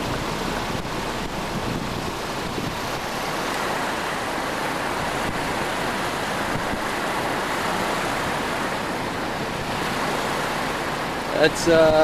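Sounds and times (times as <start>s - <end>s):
strong wind whooshing: 0.7s - 12.0s.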